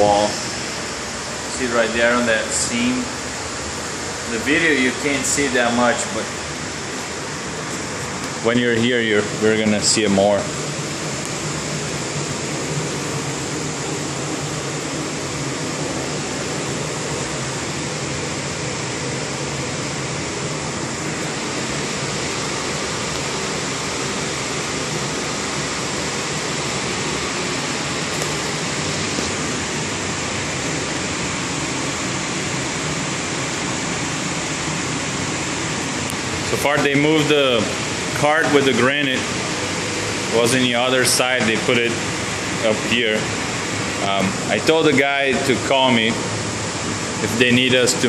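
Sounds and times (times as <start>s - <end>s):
air scrubber blower rushing: 0.0s - 48.0s.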